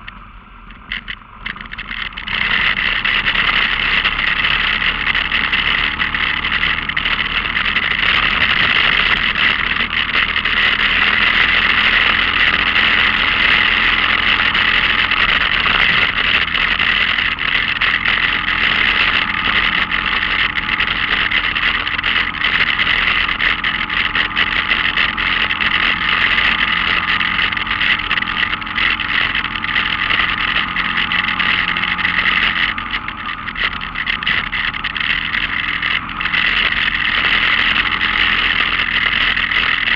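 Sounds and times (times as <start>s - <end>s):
off-road vehicle engine running: 0.0s - 39.9s
wind rush and ride noise: 0.0s - 39.9s.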